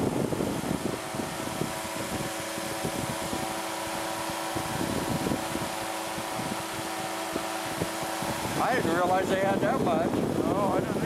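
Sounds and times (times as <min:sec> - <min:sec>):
engine and propeller drone: 0:00.0 - 0:11.0
rush of air: 0:00.0 - 0:11.0.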